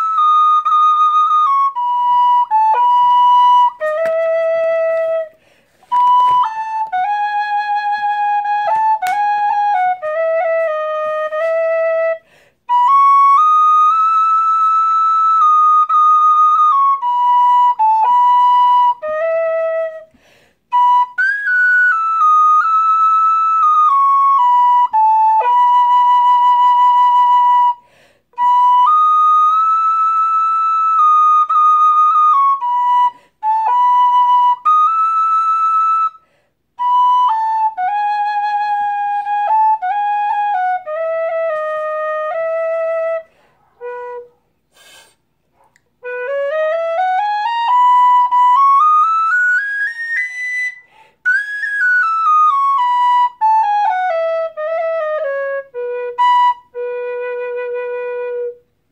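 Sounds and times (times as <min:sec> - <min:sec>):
tin whistle playing: 0:00.0 - 0:45.2, 0:46.0 - 0:58.8.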